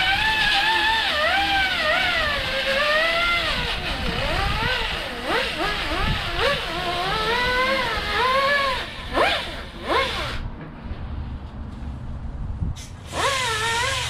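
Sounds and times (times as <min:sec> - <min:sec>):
air grinder whining: 0:00.0 - 0:10.5, 0:12.8 - 0:14.0.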